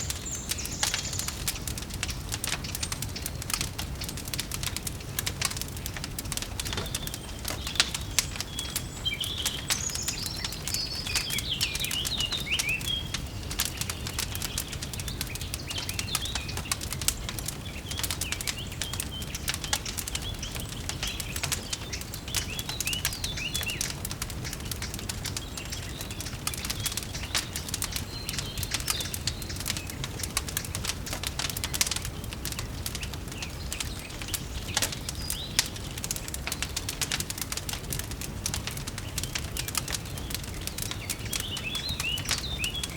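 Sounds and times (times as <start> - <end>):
fireplace crackles and rumble: 0.0 - 42.9
small birds chirping: 0.0 - 42.9.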